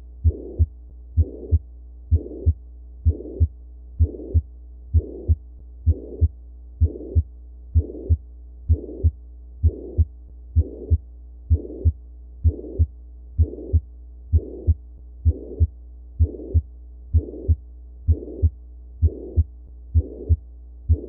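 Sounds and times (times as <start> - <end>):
harsh whooshing heart murmur: 0.2 - 21.0
low heartbeat thuds: 0.2 - 21.0.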